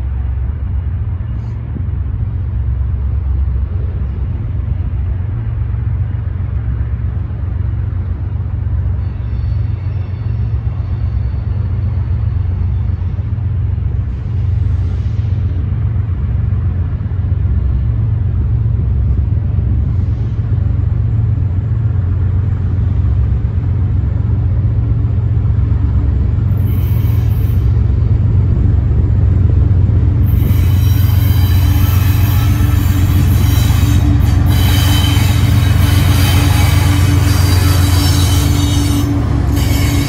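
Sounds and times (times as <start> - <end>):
diesel locomotive engine drone: 0.0 - 40.0
high-pitched wheel and rail noise: 3.3 - 40.0.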